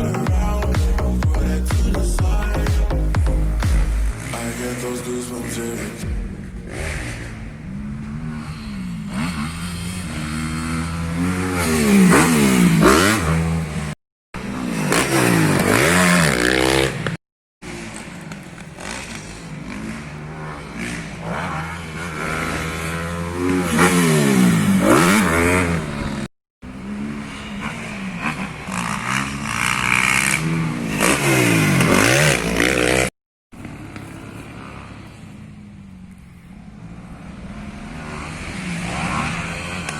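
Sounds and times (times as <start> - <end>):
dirt bikes revving: 0.0 - 39.9.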